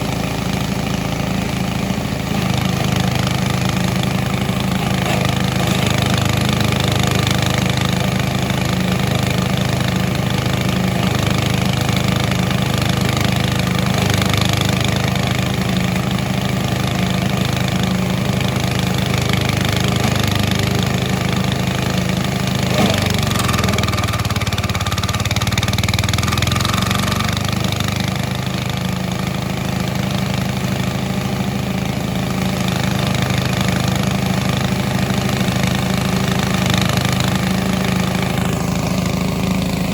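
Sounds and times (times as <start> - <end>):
forage chopper engine humming: 0.0 - 39.9.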